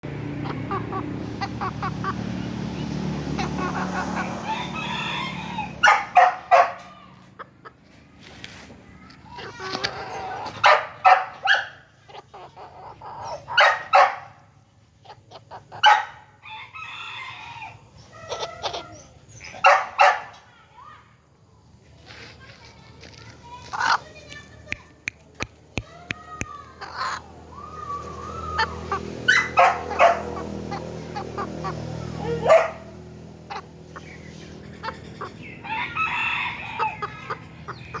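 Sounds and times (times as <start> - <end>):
chickens clucking and squawking: 0.0 - 38.0.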